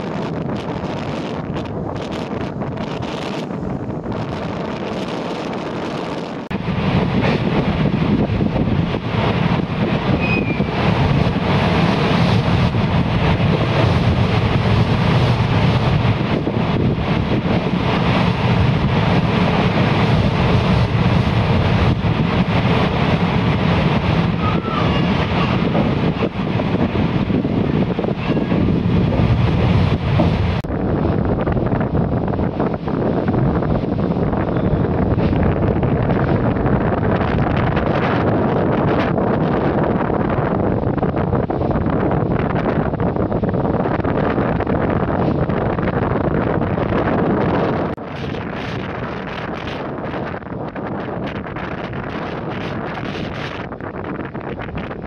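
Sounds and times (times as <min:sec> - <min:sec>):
sea waves breaking: 0:00.0 - 0:55.0
surf washing: 0:00.0 - 0:55.0
wind buffeting microphone: 0:00.0 - 0:55.0.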